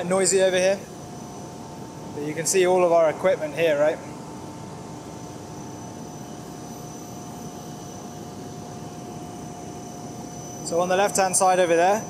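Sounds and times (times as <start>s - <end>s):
constant whining tones: 0.0s - 12.0s
drilling rig machinery drone: 0.0s - 12.0s.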